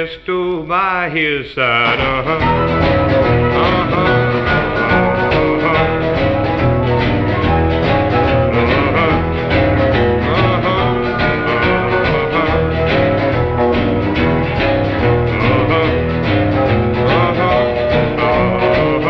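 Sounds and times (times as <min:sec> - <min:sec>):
bass: 0:00.0 - 0:19.0
guitar: 0:00.0 - 0:19.0
steady drum beat: 0:01.7 - 0:19.0.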